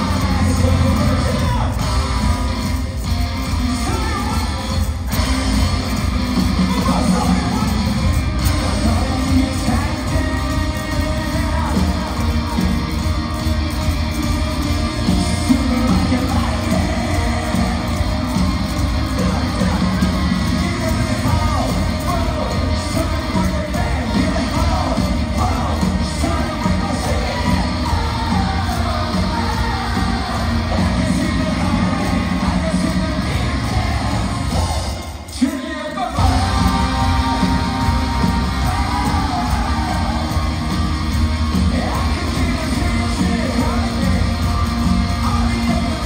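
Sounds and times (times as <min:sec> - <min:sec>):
drums: 0:00.0 - 0:46.0
electric guitars: 0:00.0 - 0:46.0
person singing: 0:06.6 - 0:13.8, 0:14.5 - 0:46.0.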